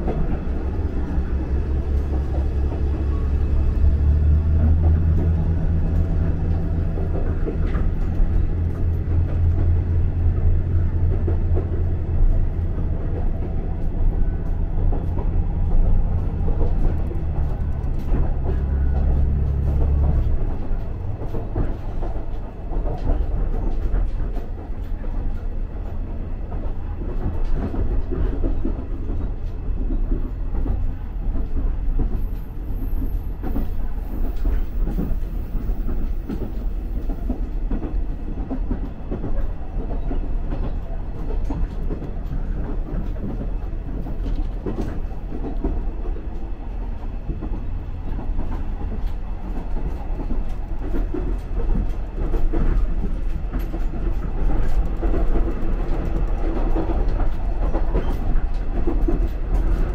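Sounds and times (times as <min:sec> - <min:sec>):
train low rumble: 0:00.0 - 0:59.9
wheels clacking over rails: 0:00.0 - 0:59.9.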